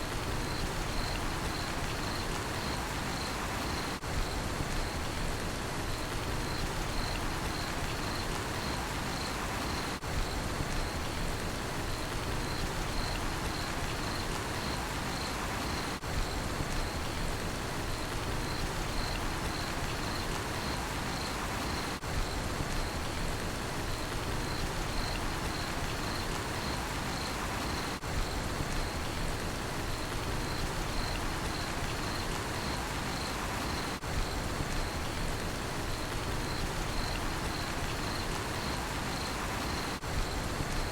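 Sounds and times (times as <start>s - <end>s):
steady rain falling: 0.0s - 40.9s
cricket chirping: 0.2s - 5.2s, 5.9s - 11.2s, 11.9s - 17.2s, 17.9s - 23.1s, 24.0s - 29.3s, 29.9s - 35.2s, 35.8s - 40.9s.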